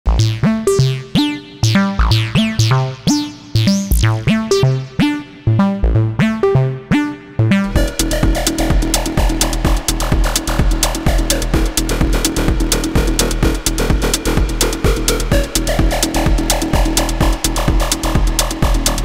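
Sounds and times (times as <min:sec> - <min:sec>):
steady low beat: 0:00.1 - 0:19.0
synthesizer plucked notes: 0:00.1 - 0:19.0.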